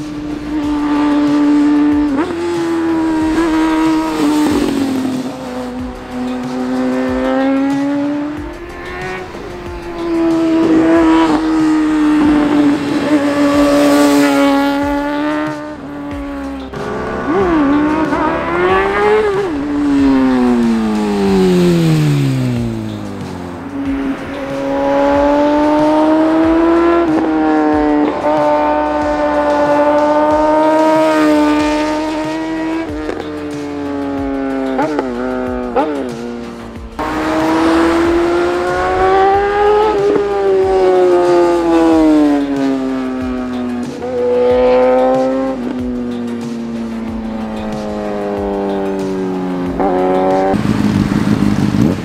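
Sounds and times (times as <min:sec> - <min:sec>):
motorcycle engines revving: 0:00.0 - 0:52.0
motorcycle passing by: 0:00.0 - 0:52.0.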